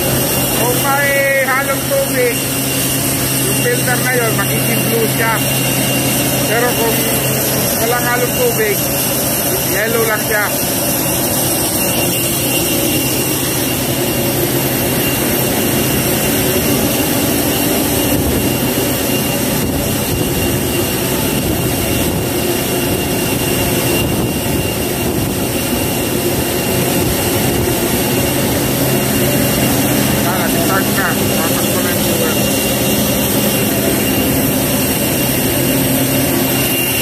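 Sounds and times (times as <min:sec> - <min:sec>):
high whine: 0:00.0 - 0:37.0
machinery drone: 0:00.0 - 0:37.0.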